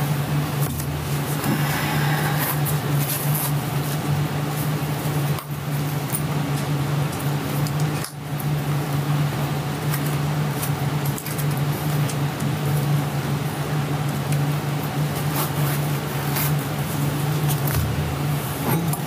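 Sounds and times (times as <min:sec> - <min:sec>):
room tone hum and hiss: 0:00.0 - 0:19.0.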